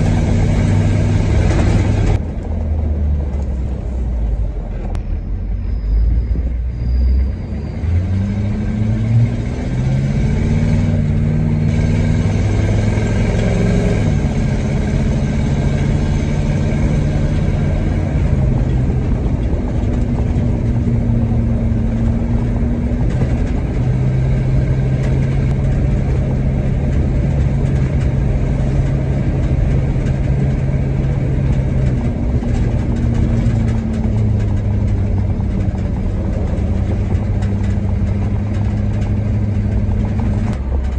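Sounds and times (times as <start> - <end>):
truck engine on the road: 0.0 - 40.9.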